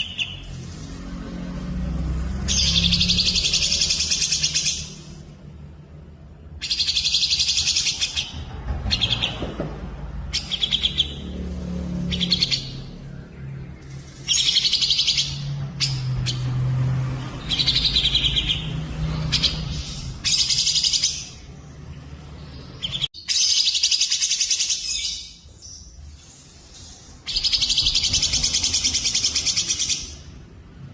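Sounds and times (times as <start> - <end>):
songbirds trilling: 0.0 - 5.3, 6.4 - 30.6.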